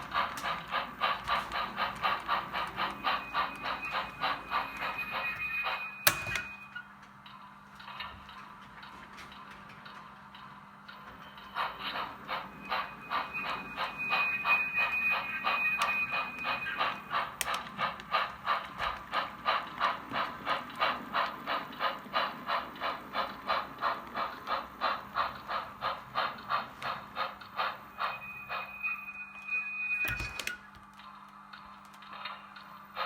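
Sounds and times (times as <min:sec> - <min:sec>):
model locomotive chuffing: 0:00.0 - 0:06.6, 0:07.3 - 0:33.0.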